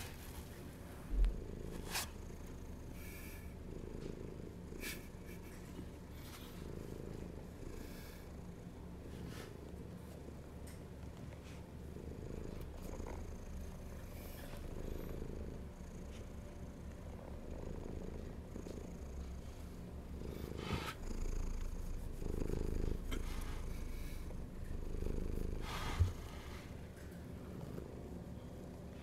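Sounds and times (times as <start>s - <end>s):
cat purring: 0.0s - 29.0s.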